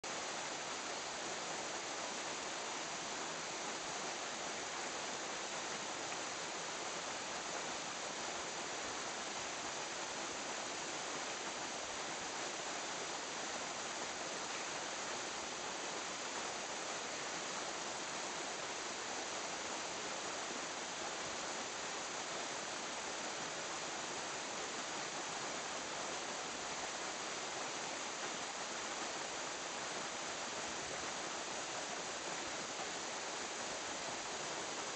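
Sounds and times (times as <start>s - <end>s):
running water rushing: 0.0s - 34.9s.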